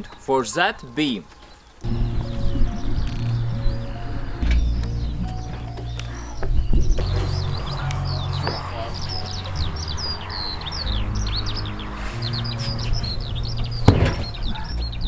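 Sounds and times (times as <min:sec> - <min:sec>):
background music with bass: 0:00.0 - 0:15.0
small birds chirping: 0:00.0 - 0:15.0.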